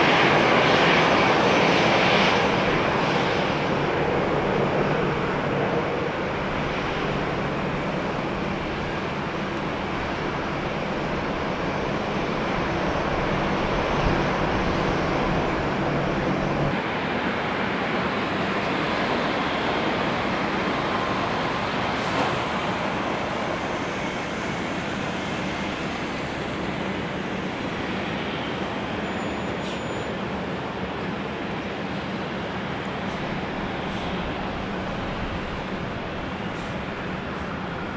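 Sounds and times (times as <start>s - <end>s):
jet engines running: 0.0s - 37.9s.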